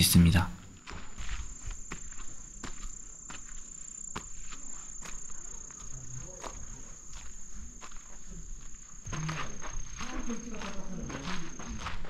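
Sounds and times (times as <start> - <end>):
footsteps on dry earth: 0.0 - 12.0
insects trilling: 0.0 - 12.0.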